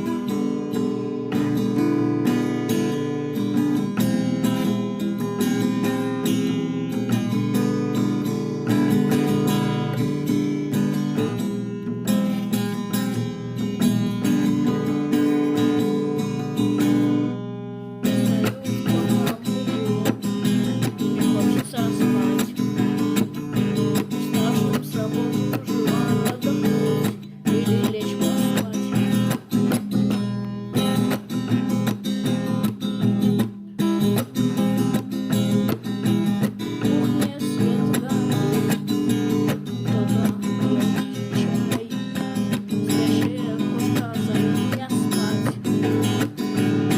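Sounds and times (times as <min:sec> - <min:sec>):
strummed acoustic guitar: 0:00.0 - 0:46.9.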